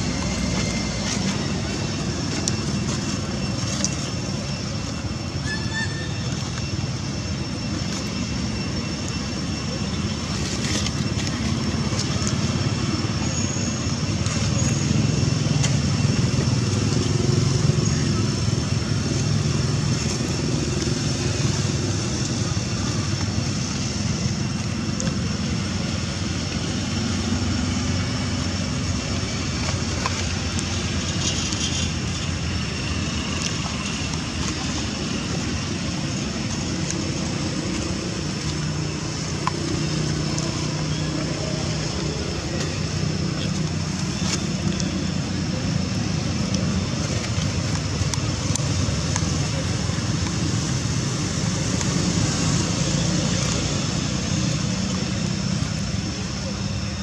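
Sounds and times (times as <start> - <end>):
faint high whine: 0.0 - 57.0.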